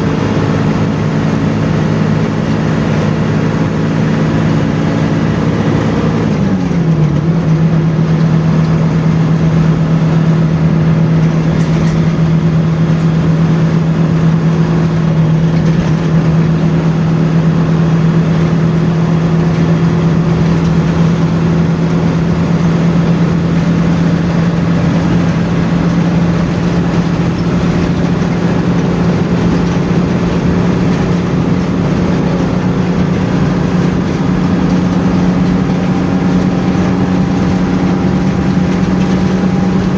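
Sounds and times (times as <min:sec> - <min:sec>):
bus engine running: 0:00.0 - 0:39.9
tyre and road noise: 0:00.0 - 0:39.9.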